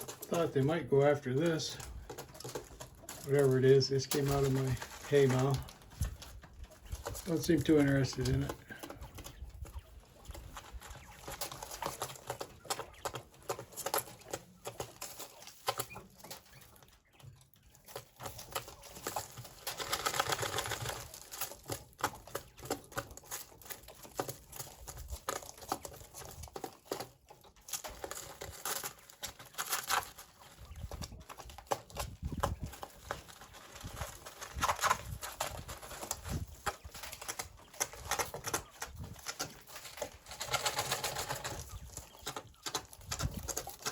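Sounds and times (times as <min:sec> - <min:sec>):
quail pecking taps: 0:00.0 - 0:43.9
soft bird sounds: 0:00.0 - 0:43.9.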